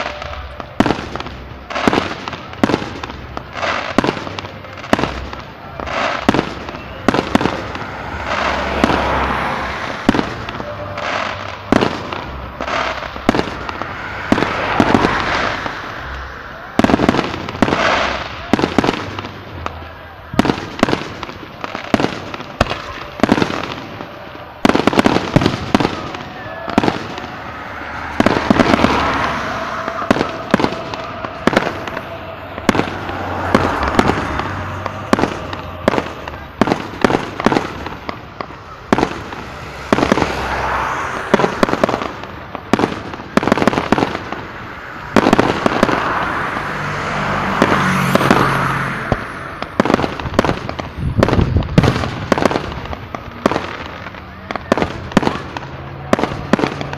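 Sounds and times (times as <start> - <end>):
fireworks bangs: 0.0 - 56.9
swells of noise: 0.0 - 56.9.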